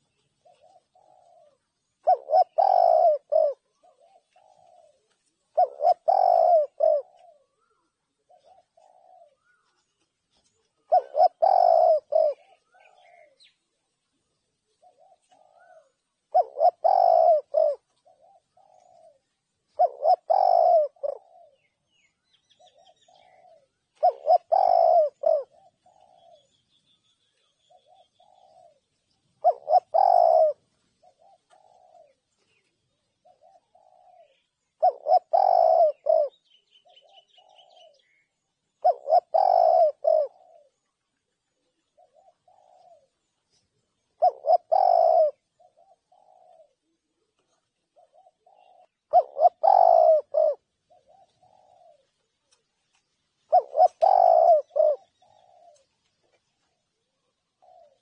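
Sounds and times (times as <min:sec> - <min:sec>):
dove cooing: 0:00.0 - 0:58.0
small bird chirping: 0:00.0 - 0:58.0.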